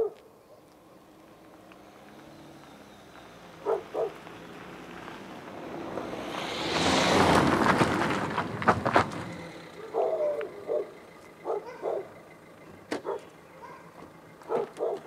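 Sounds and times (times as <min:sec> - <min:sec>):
car driving up and braking: 0:00.6 - 0:15.0.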